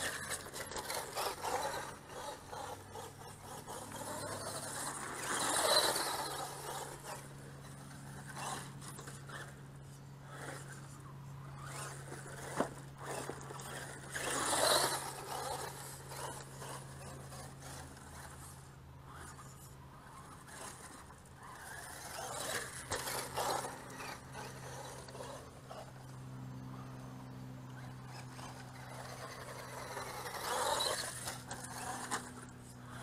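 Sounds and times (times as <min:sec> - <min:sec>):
toy truck tyres scrabbling in dirt: 0:00.0 - 0:33.0.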